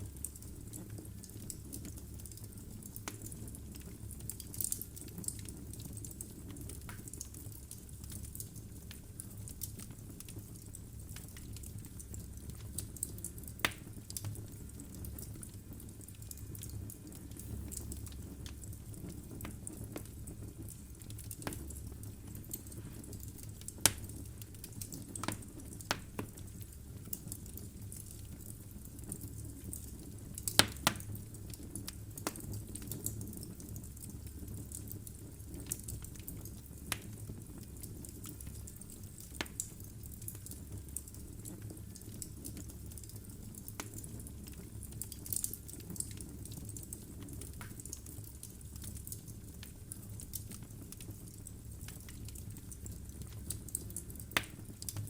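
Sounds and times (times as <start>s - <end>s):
fire flames rumbling: 0.0s - 55.0s
wood crackling and popping: 0.0s - 55.0s.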